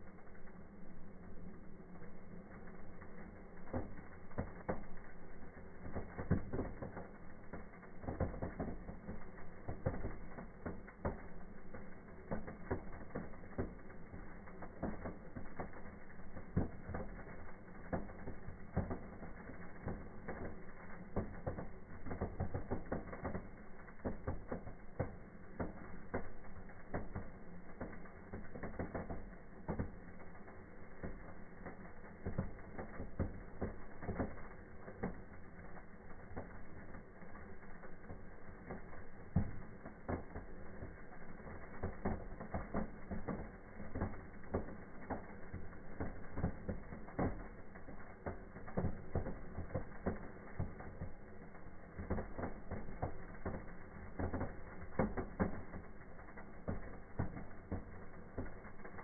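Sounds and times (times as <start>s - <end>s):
firework fountain crackling: 0.0s - 59.0s.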